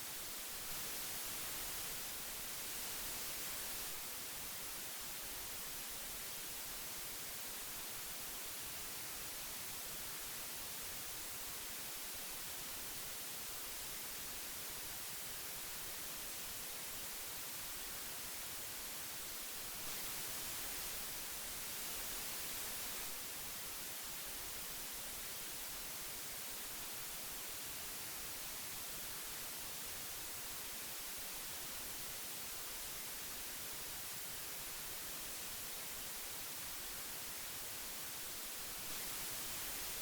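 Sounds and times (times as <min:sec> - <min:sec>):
magnetic tape hiss: 0:00.0 - 0:40.0.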